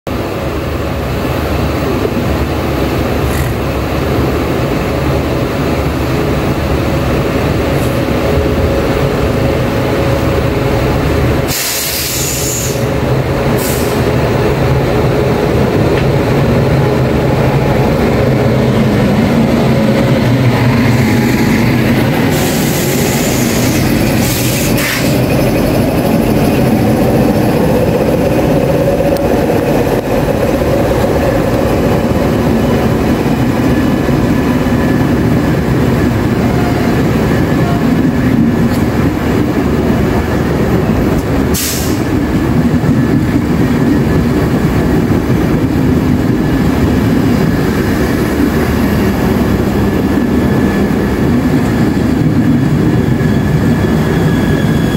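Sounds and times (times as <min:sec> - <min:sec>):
train rumbling past: 0:00.1 - 0:54.9.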